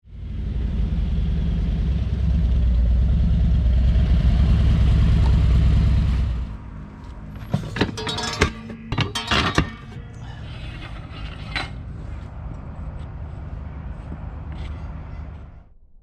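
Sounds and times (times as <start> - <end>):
motorcycle engine rumbling: 0.9 - 15.8.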